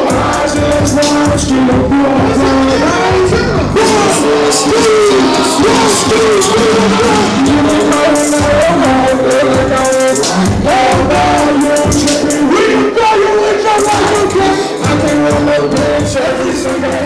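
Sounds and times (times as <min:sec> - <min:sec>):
hip-hop music: 0:00.0 - 0:17.0.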